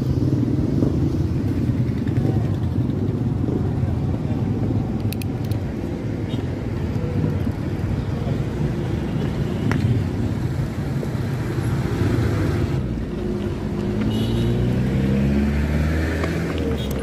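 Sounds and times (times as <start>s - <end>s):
road traffic rumble: 0.0s - 17.0s
vehicle engine: 0.0s - 17.0s.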